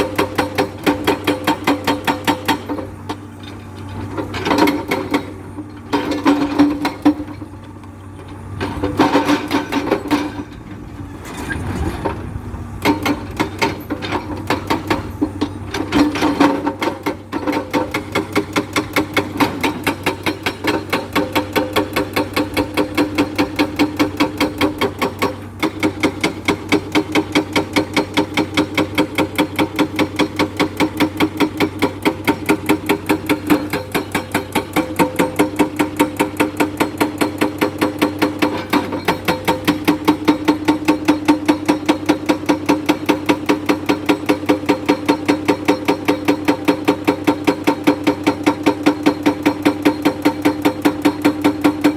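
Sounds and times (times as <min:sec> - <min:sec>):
hydraulic rock breaker hammering: 0:00.0 - 0:51.9.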